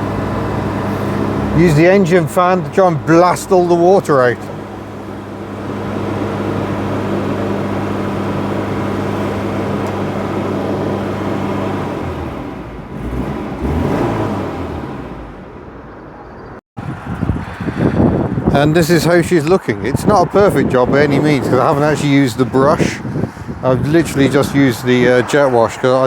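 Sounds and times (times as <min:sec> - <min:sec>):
engine cooling fan whirring: 0:00.0 - 0:16.1, 0:16.8 - 0:26.0
car engine at raised revs: 0:00.0 - 0:26.0.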